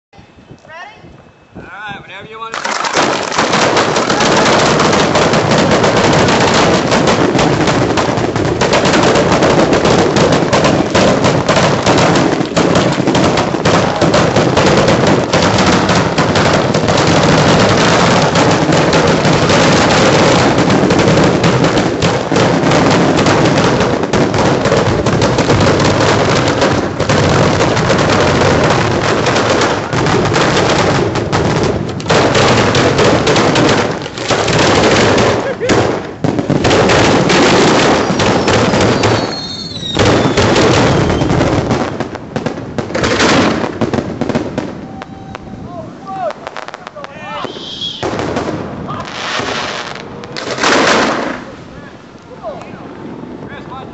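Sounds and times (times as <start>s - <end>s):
fireworks launching and crackling: 2.1s - 53.9s.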